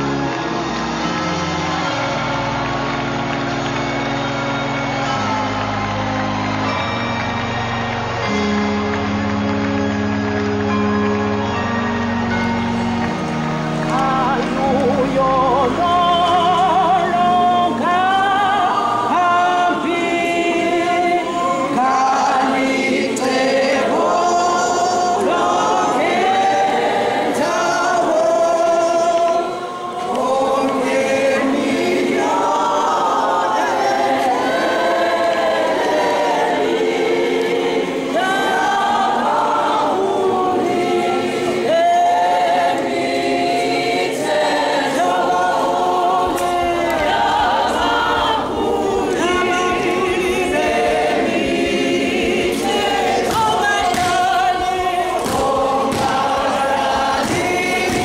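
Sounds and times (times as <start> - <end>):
congregation singing in parts: 0.0 - 58.0.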